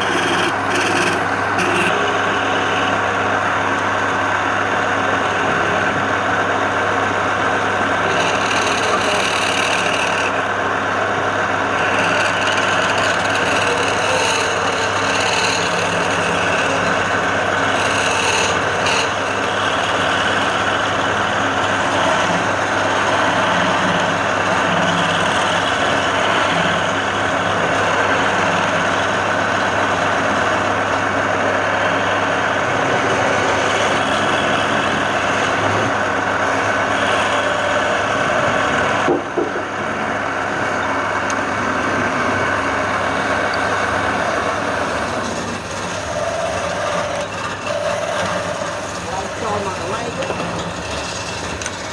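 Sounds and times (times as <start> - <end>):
lathe tool rasping on wood: 0.0 - 51.9
motor hum: 0.0 - 51.9.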